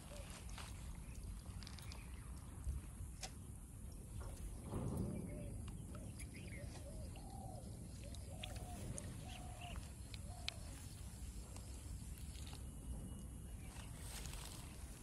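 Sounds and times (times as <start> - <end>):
birds low repeated calls: 0.0 - 15.0.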